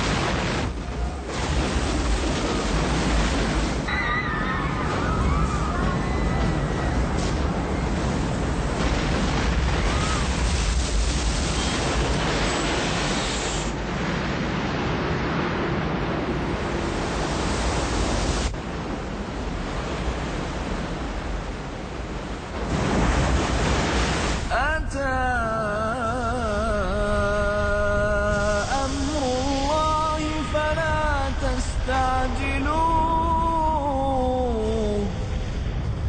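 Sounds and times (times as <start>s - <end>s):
steady rushing noise: 0.0s - 25.0s, 26.4s - 36.0s.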